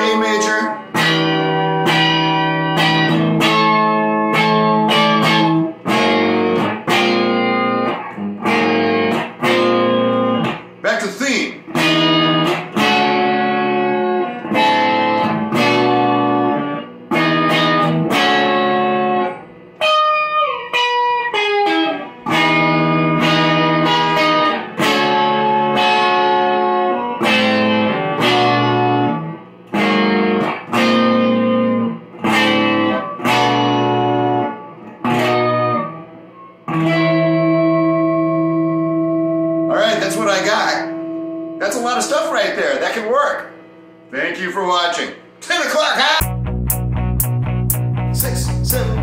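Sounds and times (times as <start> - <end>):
electric guitar chord riff: 0.0 - 44.2, 46.2 - 49.0
guitar single note run: 0.0 - 44.4, 46.2 - 49.0.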